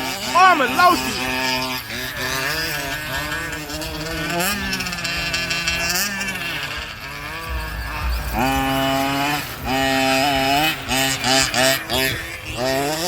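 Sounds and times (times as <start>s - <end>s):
small two-stroke engines revving: 0.0s - 13.0s.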